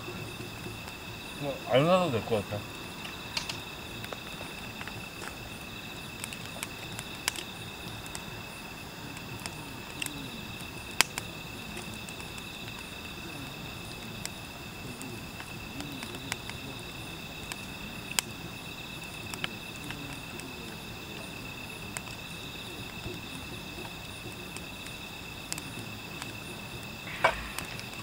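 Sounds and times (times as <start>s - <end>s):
insect trilling: 0.0s - 28.0s
sharp fire pops: 0.0s - 28.0s
wood fire crackling: 0.0s - 28.0s.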